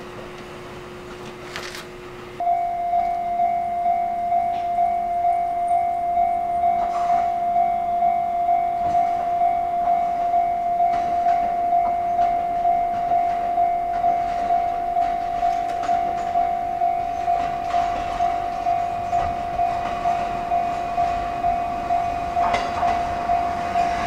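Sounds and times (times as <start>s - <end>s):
faint train noise: 0.0s - 24.0s
level crossing bell ringing: 2.4s - 24.0s.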